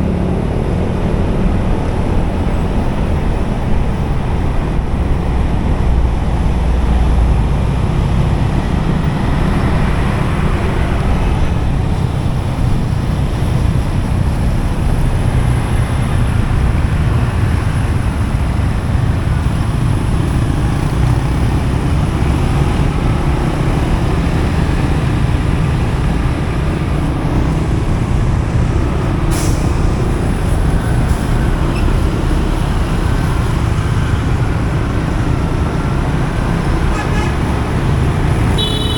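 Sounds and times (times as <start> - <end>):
low rumble of engines and tyres: 0.0 - 38.9.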